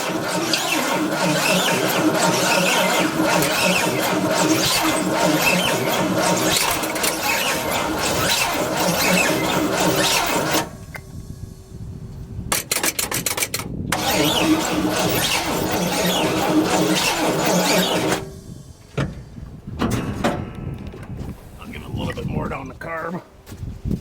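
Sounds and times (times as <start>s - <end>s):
truck engine cranking on starter: 0.0s - 21.6s.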